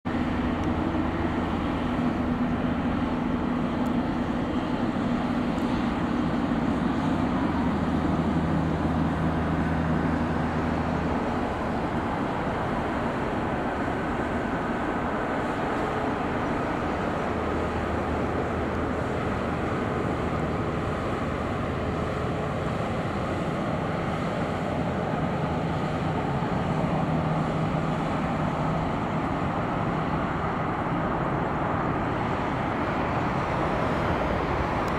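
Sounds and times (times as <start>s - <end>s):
jet engines idling: 0.1s - 34.9s.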